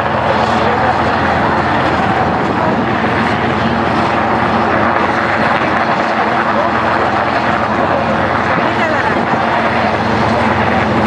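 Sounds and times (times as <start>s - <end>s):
helicopter hovering drone: 0.0s - 11.0s.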